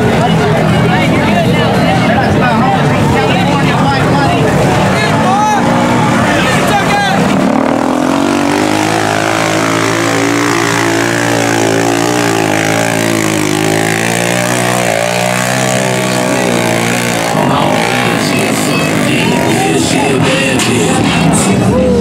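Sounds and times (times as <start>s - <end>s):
atv engine running hard: 0.0s - 22.0s.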